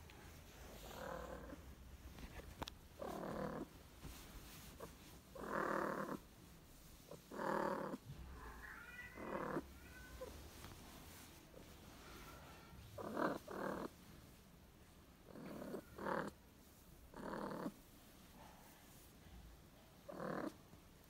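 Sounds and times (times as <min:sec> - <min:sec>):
cat purring: 0:00.2 - 0:14.4, 0:15.2 - 0:19.1, 0:19.8 - 0:21.0.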